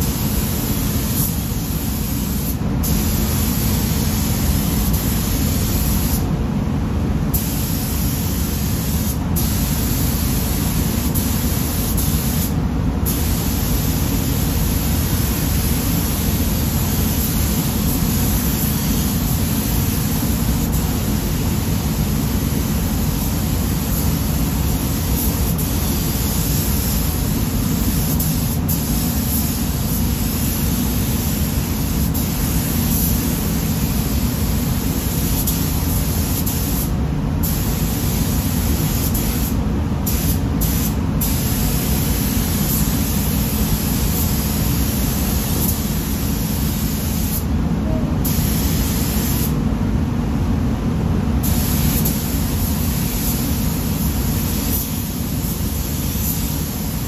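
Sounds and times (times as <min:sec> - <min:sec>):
paint spray gun hissing: 0:00.0 - 0:06.3, 0:07.3 - 0:47.5, 0:48.2 - 0:49.6, 0:51.4 - 0:57.0.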